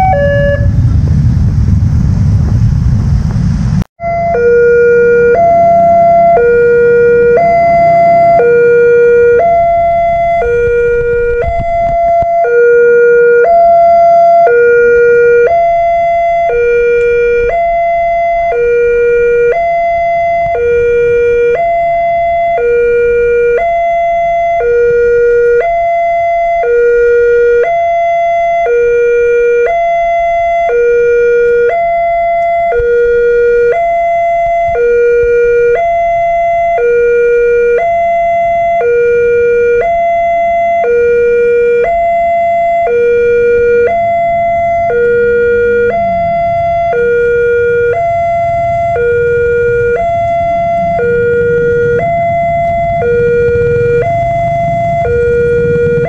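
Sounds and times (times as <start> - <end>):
two-tone electronic alarm: 0.0 - 0.8, 4.0 - 56.0.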